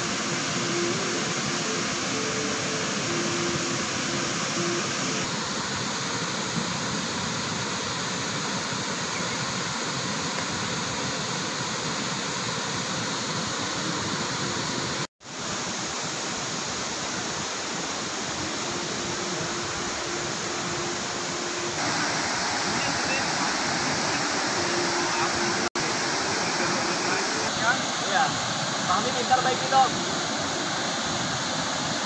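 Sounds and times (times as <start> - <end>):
rushing river rapids: 0.0 - 32.0.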